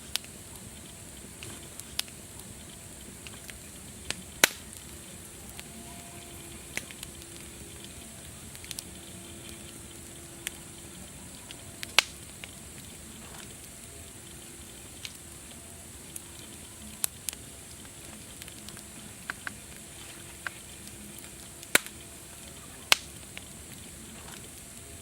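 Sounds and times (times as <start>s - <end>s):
fire crackling: 0.0s - 25.0s.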